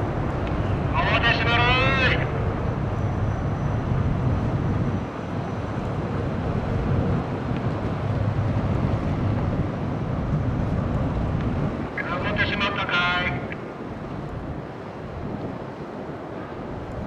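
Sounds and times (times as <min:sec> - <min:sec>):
tugboat diesel engine rumble: 0:00.0 - 0:14.6.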